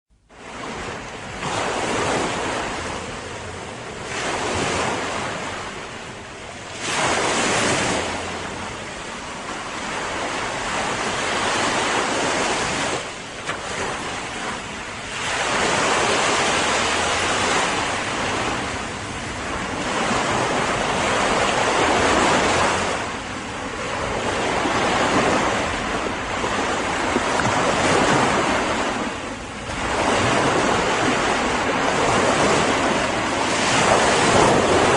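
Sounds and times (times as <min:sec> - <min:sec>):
sea waves breaking ashore: 0:00.2 - 0:34.9
wind on microphone: 0:00.3 - 0:34.9.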